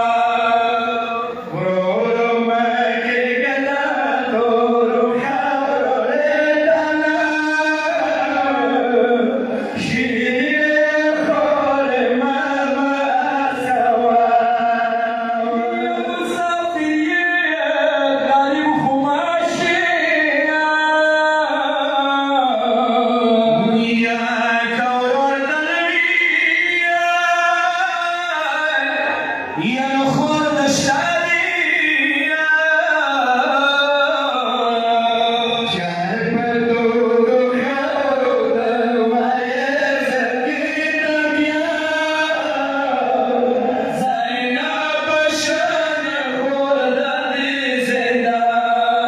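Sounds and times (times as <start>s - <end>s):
man chanting: 0.0s - 49.0s.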